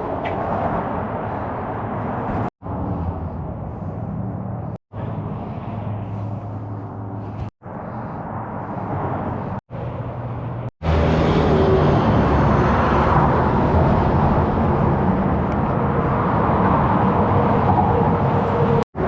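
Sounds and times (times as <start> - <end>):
road vehicle engine and tyres: 0.0 - 19.0.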